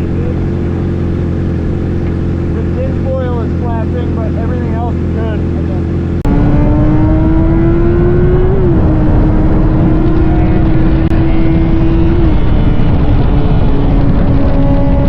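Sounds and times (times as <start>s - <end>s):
motorcycle engine revving high: 0.0s - 15.0s.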